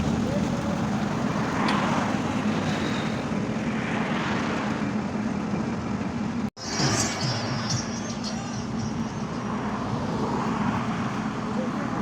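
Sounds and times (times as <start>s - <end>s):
heavy diesel engine running: 0.0s - 10.2s.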